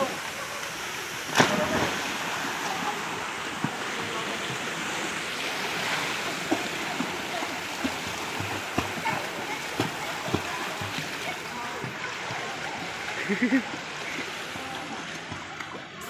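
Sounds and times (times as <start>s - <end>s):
people diving into pool: 0.0s - 16.0s
swimming strokes splashing: 1.3s - 2.8s, 3.5s - 15.8s.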